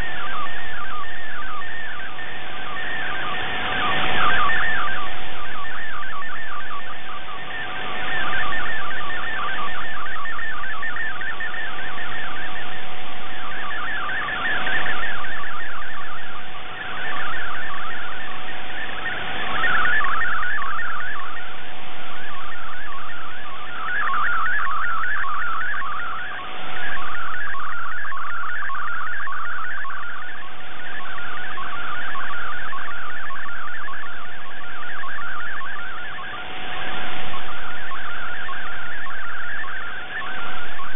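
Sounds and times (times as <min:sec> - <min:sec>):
warbling digital data tones: 0:00.0 - 0:40.9.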